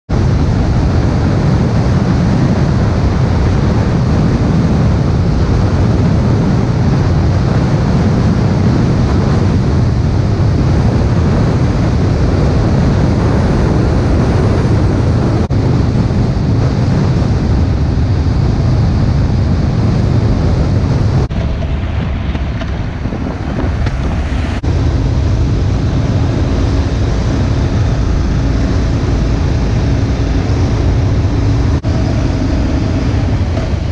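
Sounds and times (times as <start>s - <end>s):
road and engine noise: 0.0s - 33.9s
wind on microphone: 0.1s - 33.9s.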